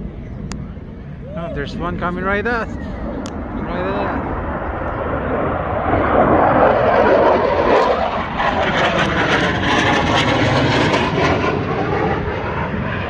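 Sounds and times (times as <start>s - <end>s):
fighter jet flying past: 0.1s - 13.0s.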